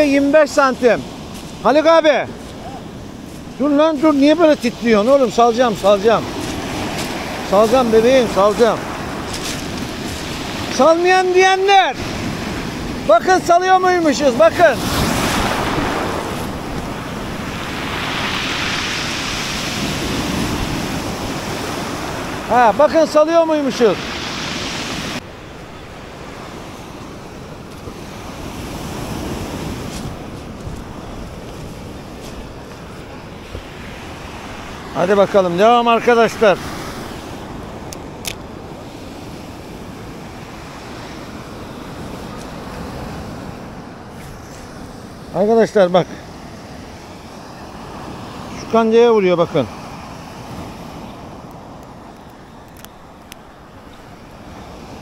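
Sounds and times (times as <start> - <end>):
wind buffeting microphone: 0.0 - 22.8, 23.8 - 45.2
waves breaking on shore: 0.0 - 55.0.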